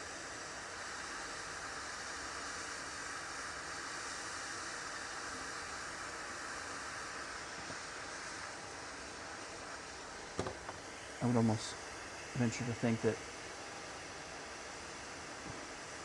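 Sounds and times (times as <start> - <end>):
hot air blower hissing: 0.0 - 16.0.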